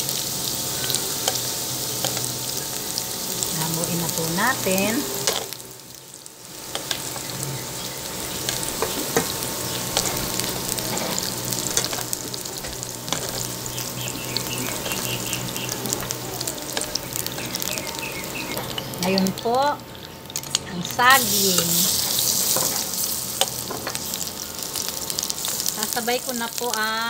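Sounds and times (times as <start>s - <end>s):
slices sizzling in hot oil: 0.0s - 27.0s.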